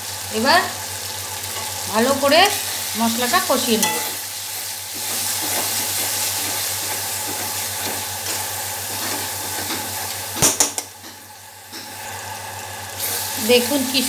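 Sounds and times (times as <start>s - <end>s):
paste sizzling in oil: 0.0s - 14.0s.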